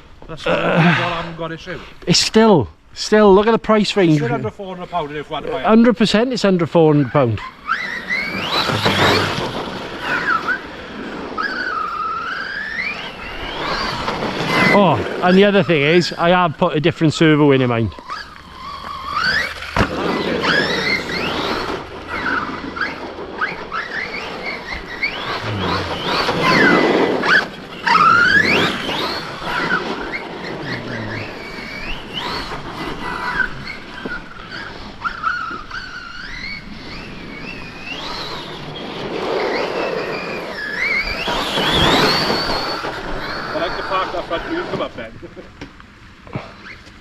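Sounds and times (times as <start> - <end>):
tyres rushing on ground: 5.6 - 45.4
electric motors whining: 6.8 - 47.0.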